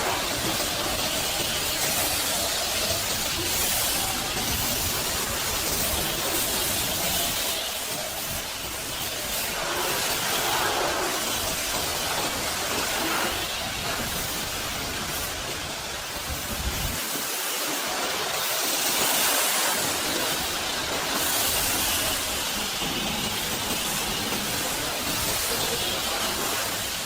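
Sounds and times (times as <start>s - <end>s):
pressure washer spraying water: 0.0s - 27.0s.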